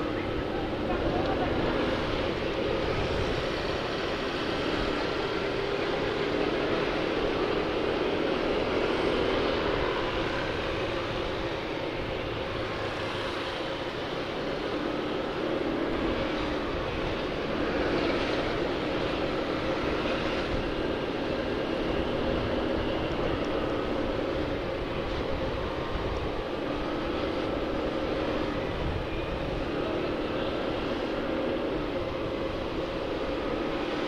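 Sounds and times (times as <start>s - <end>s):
wind noise on microphone: 0.0s - 34.0s.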